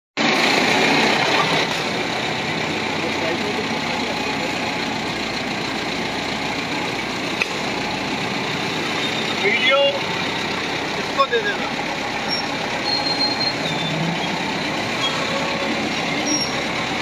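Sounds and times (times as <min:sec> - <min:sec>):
motorcycle rickshaw engine: 0:00.2 - 0:17.0.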